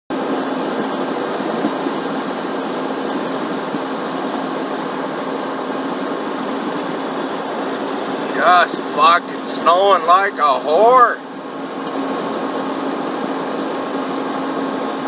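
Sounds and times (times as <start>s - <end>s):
truck engine running: 0.1s - 15.0s
low steady hum: 0.2s - 15.0s.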